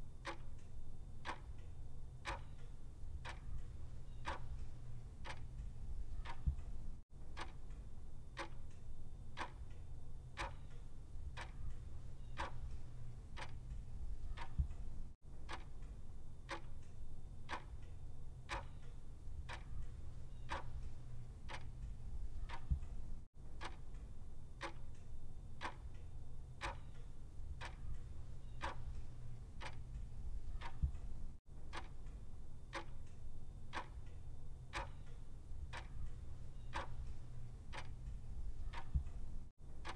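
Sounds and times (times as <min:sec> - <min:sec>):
low steady hum: 0:00.0 - 0:39.9
clock ticking: 0:00.2 - 0:07.8, 0:08.4 - 0:08.8, 0:09.4 - 0:09.8, 0:10.4 - 0:17.9, 0:18.5 - 0:26.0, 0:26.6 - 0:39.9.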